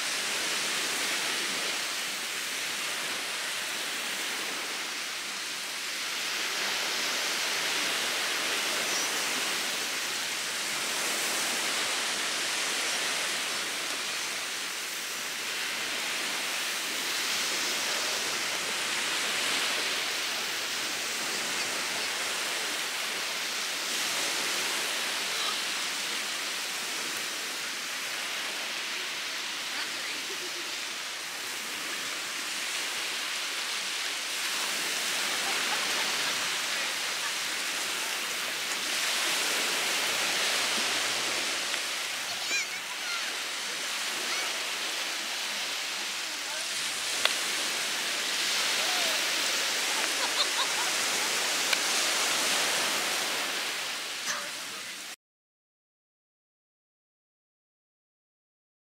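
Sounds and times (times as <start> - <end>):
surf on a sandy beach: 0.0 - 55.2.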